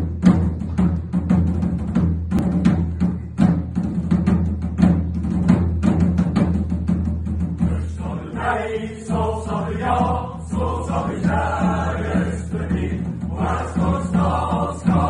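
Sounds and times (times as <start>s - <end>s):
side drum march rhythm: 0.0s - 15.0s.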